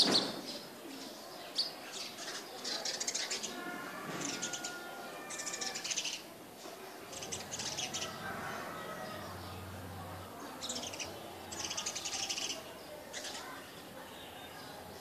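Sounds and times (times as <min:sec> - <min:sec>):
small birds chirping: 0:00.0 - 0:03.6, 0:04.2 - 0:15.0.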